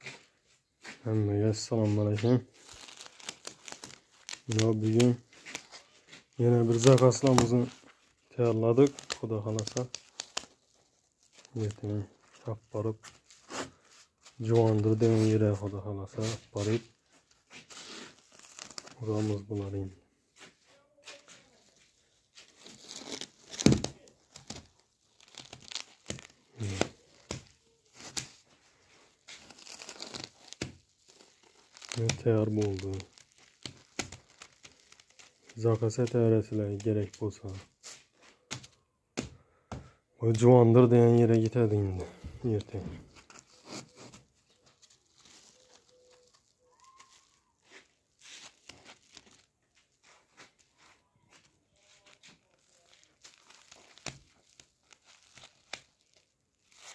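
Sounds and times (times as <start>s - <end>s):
crinkling of wrapping material: 0.0s - 56.9s.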